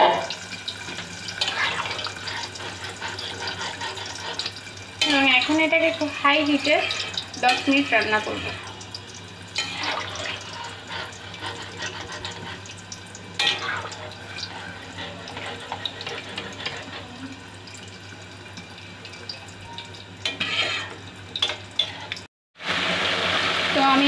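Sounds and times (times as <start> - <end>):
curry bubbling in a pan: 0.3 - 22.8.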